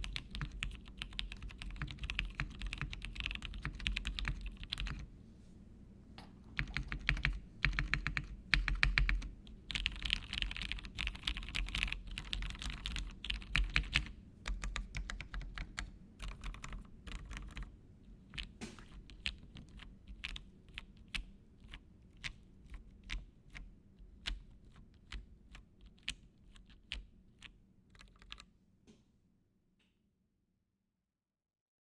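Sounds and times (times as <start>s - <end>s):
mechanical keyboard typing: 0.0s - 5.0s, 6.5s - 17.7s, 18.3s - 28.5s.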